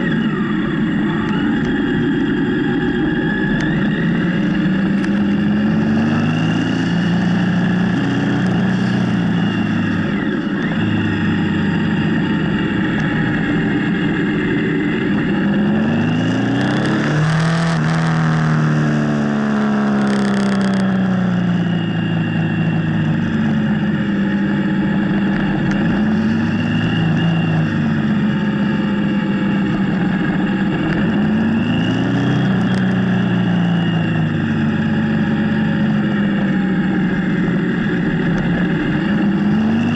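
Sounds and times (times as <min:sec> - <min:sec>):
motorcycle engine revving: 0:00.0 - 0:39.9
steady rush of noise: 0:00.0 - 0:39.9.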